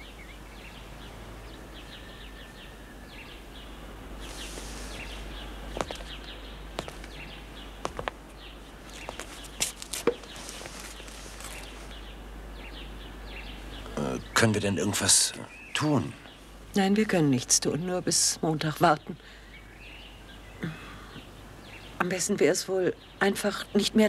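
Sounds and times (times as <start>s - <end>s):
background hiss: 0.0s - 24.0s
small birds chirping: 0.0s - 24.0s.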